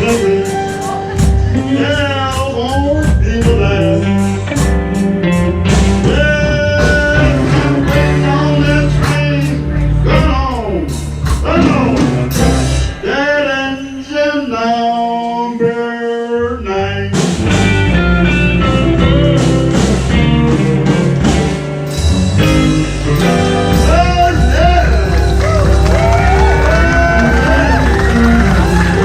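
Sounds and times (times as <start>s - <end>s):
blues band playing: 0.0s - 29.0s.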